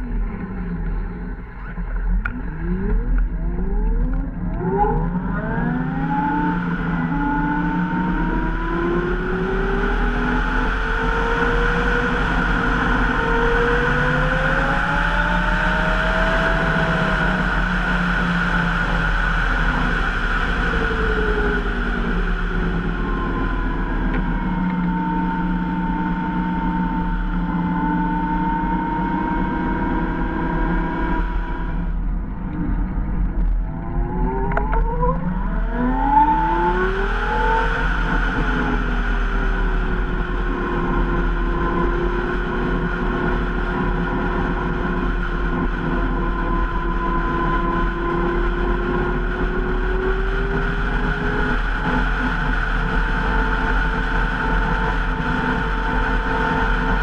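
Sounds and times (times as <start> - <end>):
electric motorcycle whine: 0.0 - 57.0
wind and road noise: 0.0 - 57.0.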